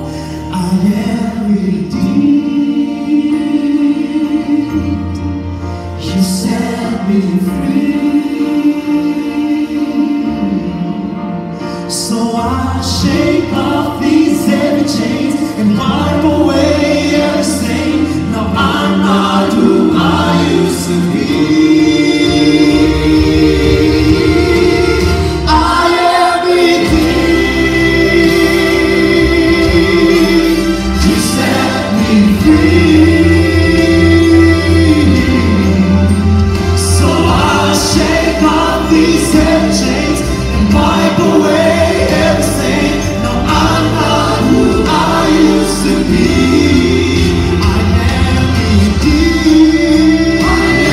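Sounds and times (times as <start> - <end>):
gospel choir singing: 0.0 - 50.9
instrumental backing: 0.0 - 50.9.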